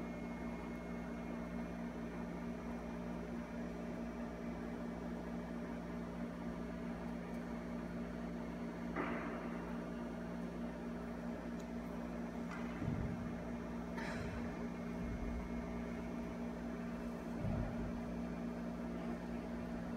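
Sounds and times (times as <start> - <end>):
low electrical hum: 0.0 - 19.9.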